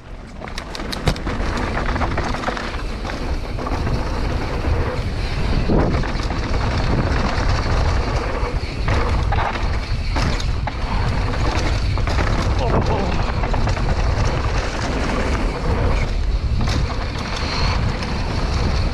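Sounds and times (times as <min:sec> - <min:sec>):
bike knocks and rattles: 0:00.0 - 0:18.9
tyre noise on dirt: 0:00.0 - 0:18.9
wind buffeting microphone: 0:00.0 - 0:18.9.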